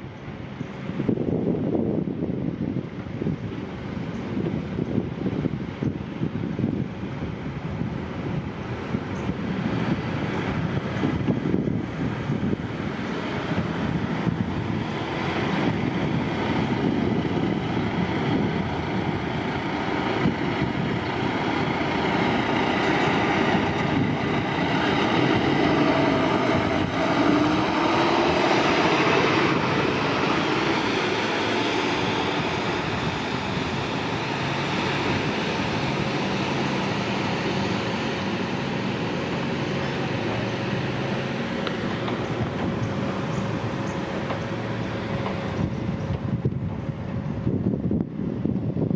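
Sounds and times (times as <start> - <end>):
road traffic noise: 0.0 - 48.9.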